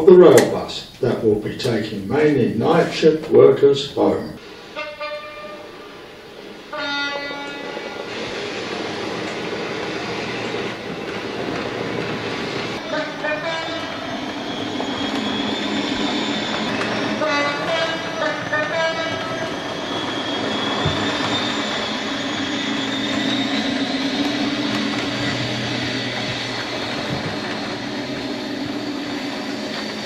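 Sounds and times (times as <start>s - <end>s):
model train motor humming and whining: 4.0s - 30.0s
wheels running on rails: 5.3s - 30.0s.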